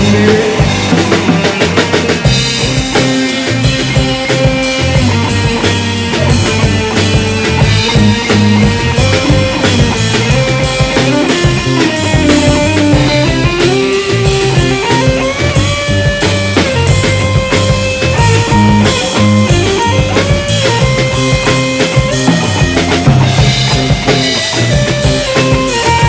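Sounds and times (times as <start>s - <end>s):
bass line: 0.0s - 26.0s
drum kit beat: 0.0s - 26.0s
electric guitar lead: 0.0s - 26.0s.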